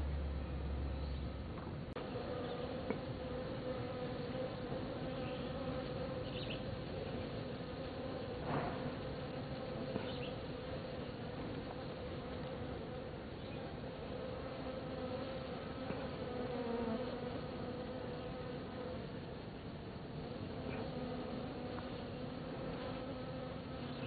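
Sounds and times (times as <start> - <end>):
bees buzzing: 1.8 - 24.0.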